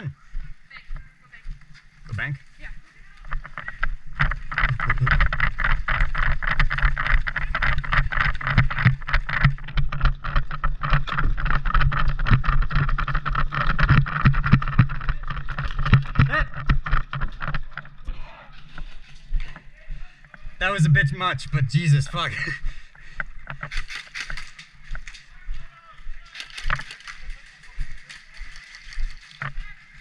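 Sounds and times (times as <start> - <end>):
running footsteps: 0.0 - 30.0
gear jostling: 1.6 - 19.8, 23.2 - 30.0.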